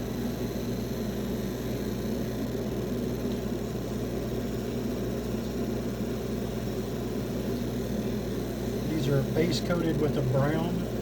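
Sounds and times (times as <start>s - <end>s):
laser engraving machine hum: 0.0s - 11.0s.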